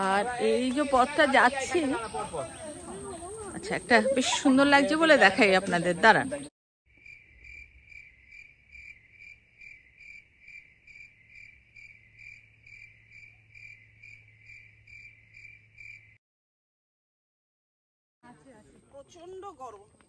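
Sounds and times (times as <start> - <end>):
insect chirping: 0.0 - 16.2.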